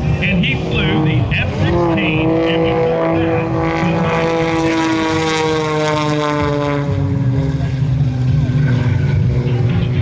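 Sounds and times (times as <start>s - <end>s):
propeller plane droning overhead: 0.0s - 10.0s.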